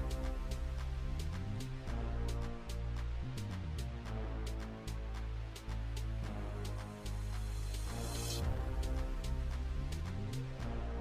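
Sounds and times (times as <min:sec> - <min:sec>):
music with bass and beat: 0:00.0 - 0:11.0.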